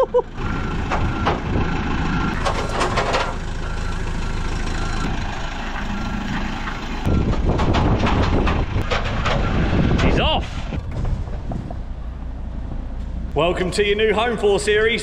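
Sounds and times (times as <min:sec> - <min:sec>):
truck engine running: 0:00.0 - 0:15.0
chassis rattling on steel bed: 0:00.7 - 0:13.3.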